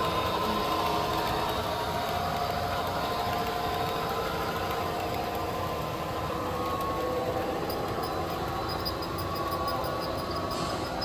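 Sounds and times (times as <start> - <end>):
faint steady tones: 0.0 - 11.0
locomotive engine drone: 0.0 - 11.0.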